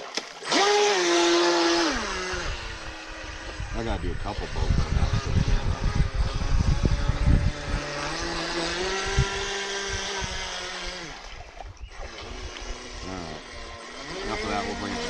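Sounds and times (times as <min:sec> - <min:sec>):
model boat motor whining: 0:00.1 - 0:15.0
wind buffeting microphone: 0:01.6 - 0:15.0.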